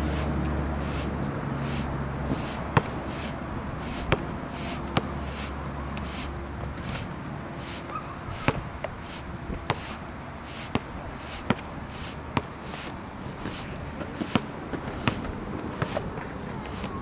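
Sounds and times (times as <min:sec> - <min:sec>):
anchor scraping in sand: 0:00.0 - 0:17.0.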